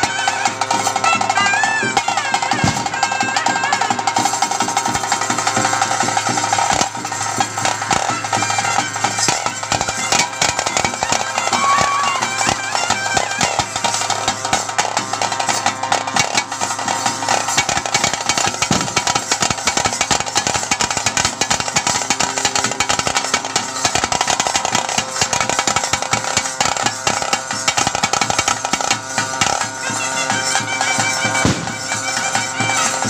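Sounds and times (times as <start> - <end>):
fast dense drumming: 0.0 - 33.0
wind instrument melody: 0.0 - 33.0.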